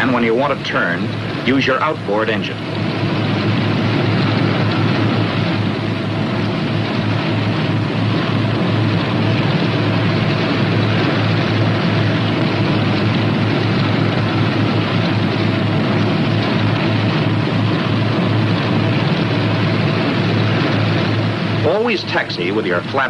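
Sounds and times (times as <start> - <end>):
twin aircraft engines droning: 0.0 - 23.0.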